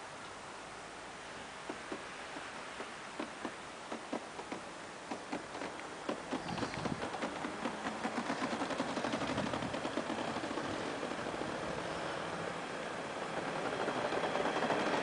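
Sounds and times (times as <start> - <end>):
train rumble: 1.5 - 15.0
train wheels clacking over rails: 1.6 - 15.0.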